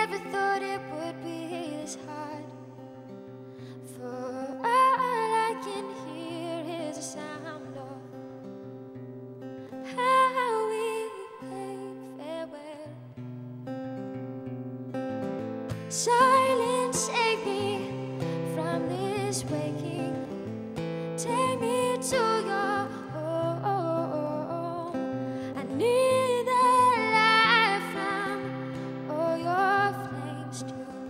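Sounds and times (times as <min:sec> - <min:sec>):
woman singing slow song: 0:00.0 - 0:08.6, 0:09.8 - 0:13.2, 0:15.7 - 0:31.0
strummed acoustic guitar: 0:00.0 - 0:31.0.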